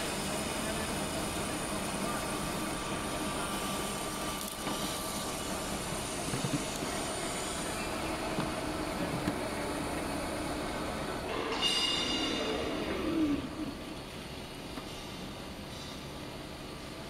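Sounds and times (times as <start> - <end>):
metal lathe running: 0.0 - 14.1.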